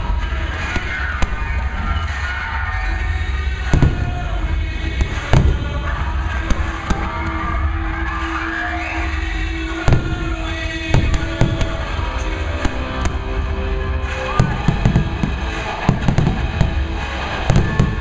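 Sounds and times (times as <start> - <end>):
fireworks bursting: 0.0 - 18.0
loud music: 0.0 - 18.0.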